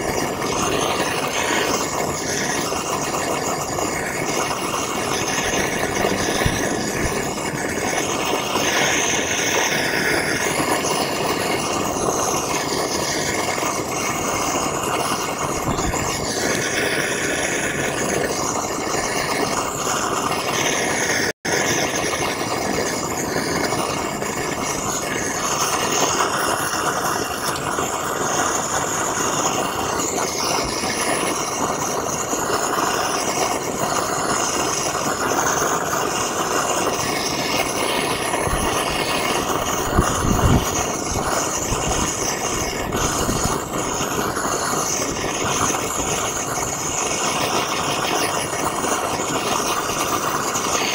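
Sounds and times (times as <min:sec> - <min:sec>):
gas torch flame hissing: 0:00.0 - 0:50.9.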